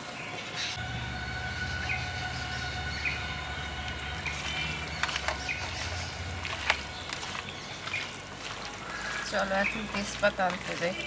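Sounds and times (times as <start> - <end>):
low steady hum: 0.7 - 10.8.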